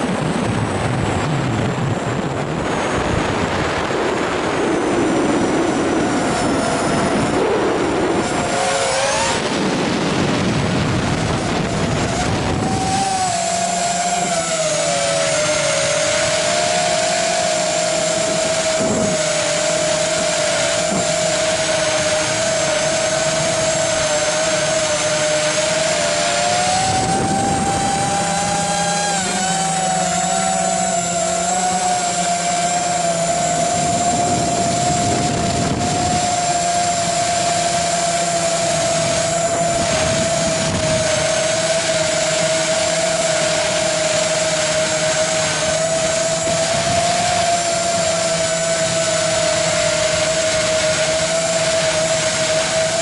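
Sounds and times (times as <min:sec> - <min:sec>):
quadcopter motors whining: 0:00.0 - 0:53.0.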